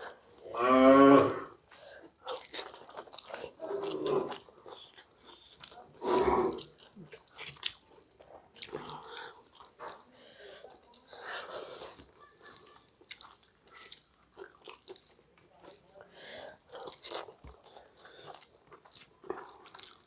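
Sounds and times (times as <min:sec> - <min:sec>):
chewing mouth sounds: 0:02.0 - 0:05.9, 0:06.5 - 0:16.0, 0:16.7 - 0:20.0.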